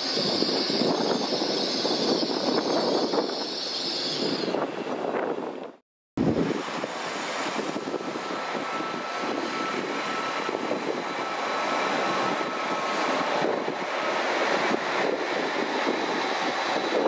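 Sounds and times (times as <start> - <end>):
train wheels rushing and rumbling: 0.0 - 17.0.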